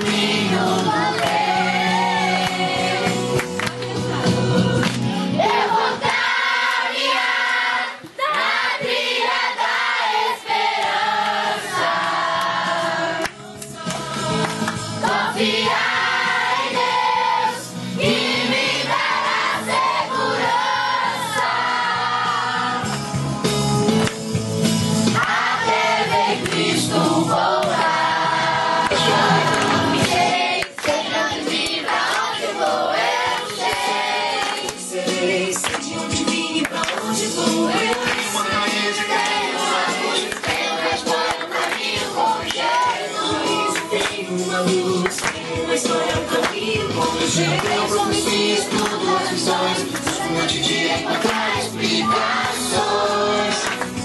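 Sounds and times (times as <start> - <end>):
children singing a religious song: 0.0 - 3.2, 5.3 - 22.8, 25.2 - 35.5, 36.2 - 53.8
musical accompaniment: 0.0 - 7.1, 10.4 - 54.0.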